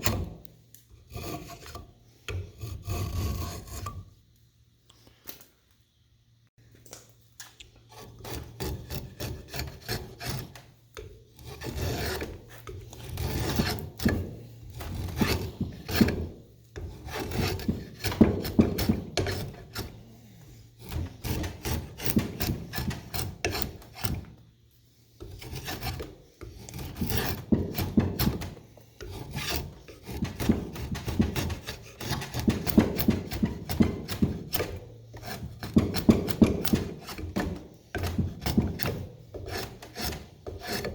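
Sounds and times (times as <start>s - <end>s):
hand rasping strokes on wood: 1.1s - 4.0s, 7.9s - 10.7s, 11.3s - 24.3s, 25.2s - 40.9s.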